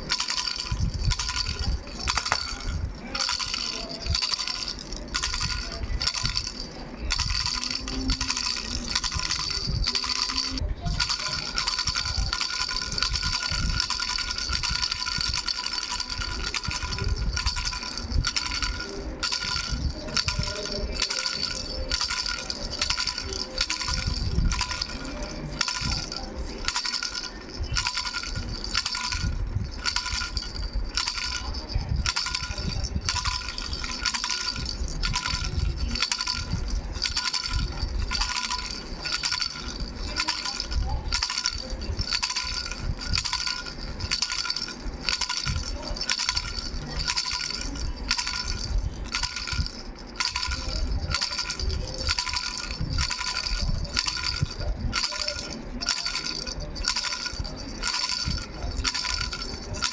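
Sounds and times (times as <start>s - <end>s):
baby rattle bells jingling: 0.0s - 59.9s.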